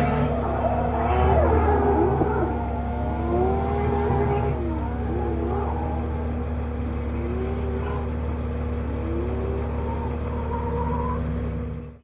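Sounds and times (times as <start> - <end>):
car engine revving: 0.0 - 12.0
steady low hum: 0.0 - 12.0.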